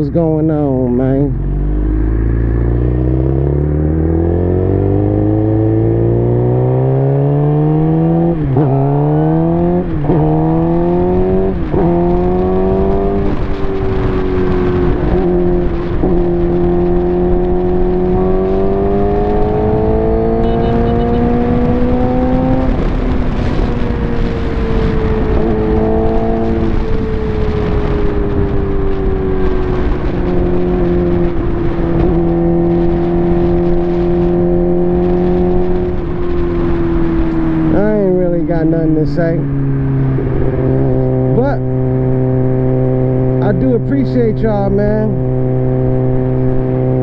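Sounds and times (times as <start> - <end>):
motorcycle engine revving: 0.7 - 47.0.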